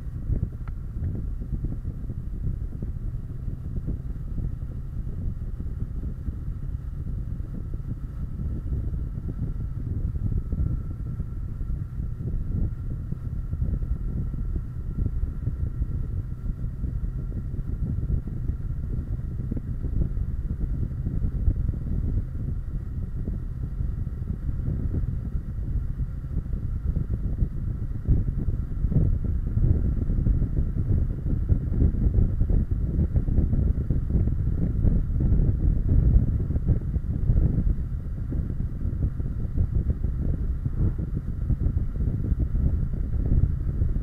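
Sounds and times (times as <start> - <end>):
motorcycle engine and tyre noise: 0.0 - 44.0
wind buffeting microphone: 0.0 - 44.0.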